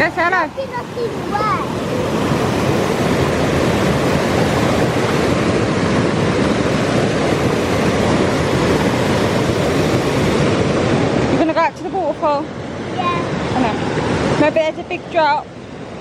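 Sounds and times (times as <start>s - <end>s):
water rushing over waterfall: 0.0s - 16.0s.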